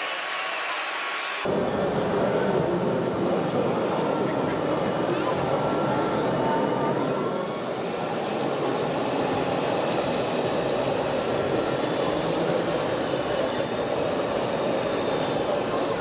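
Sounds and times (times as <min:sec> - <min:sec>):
model machines running hum: 0:00.0 - 0:16.0.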